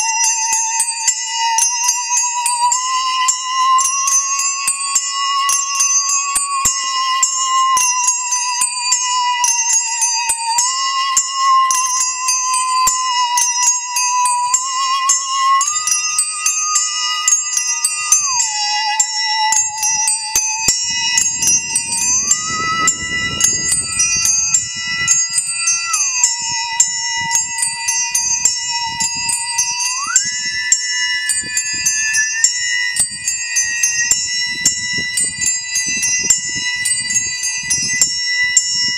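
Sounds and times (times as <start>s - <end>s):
bowed musical saw: 0.0s - 38.9s
handbells ringing: 0.0s - 38.9s.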